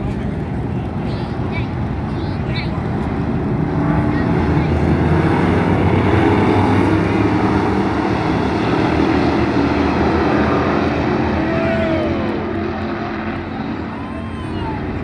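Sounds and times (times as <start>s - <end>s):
race car engines roaring: 0.0s - 15.0s.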